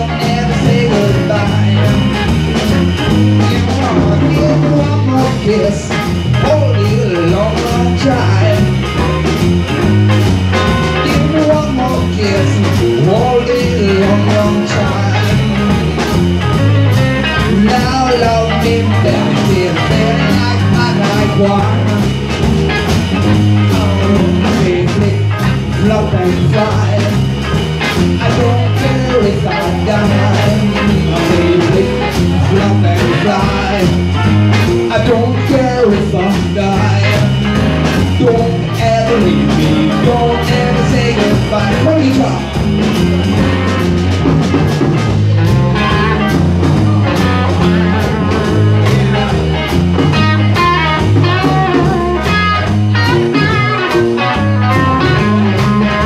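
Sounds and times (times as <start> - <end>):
lead melody line: 0.0 - 56.0
steady drumbeat: 0.0 - 56.0
stepping bass line: 0.0 - 56.0.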